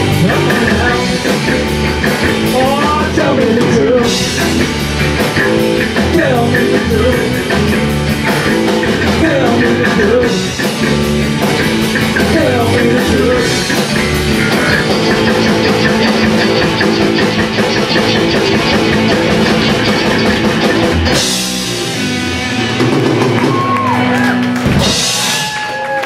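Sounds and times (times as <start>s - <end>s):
drum kit with cymbals: 0.0s - 25.6s
electric guitars: 0.0s - 26.0s.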